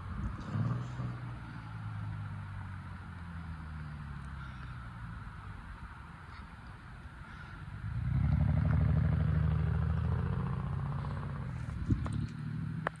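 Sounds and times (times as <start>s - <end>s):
vehicle engine running: 0.0s - 6.4s, 7.2s - 13.0s.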